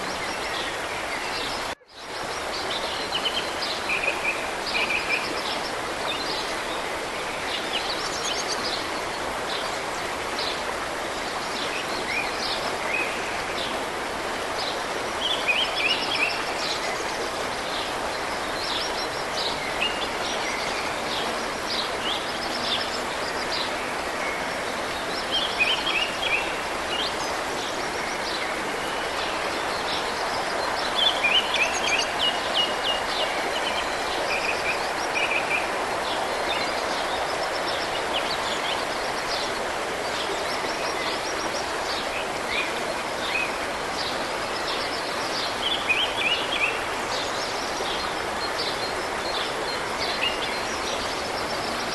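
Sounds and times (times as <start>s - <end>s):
rushing mountain stream: 0.0s - 51.9s.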